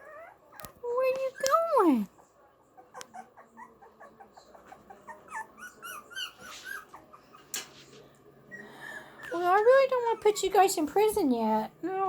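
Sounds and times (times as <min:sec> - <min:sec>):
puppies whimpering: 0:00.0 - 0:07.6, 0:08.4 - 0:11.0.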